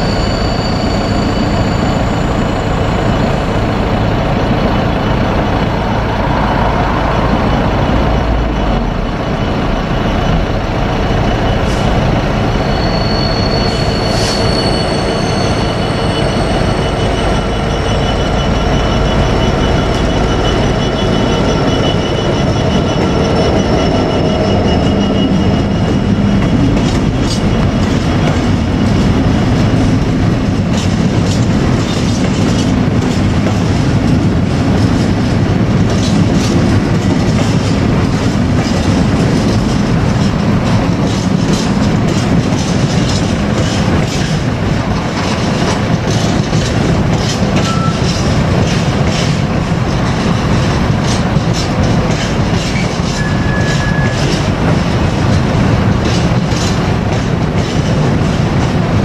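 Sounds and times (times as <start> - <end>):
train wheels rumbling on rail: 0.0 - 59.0
clickety-clack over rail joints: 10.0 - 59.0.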